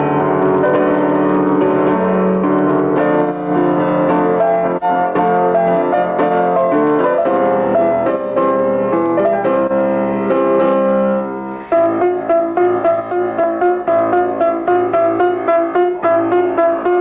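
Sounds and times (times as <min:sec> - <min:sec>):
piano-like keyboard melody: 0:00.0 - 0:17.0.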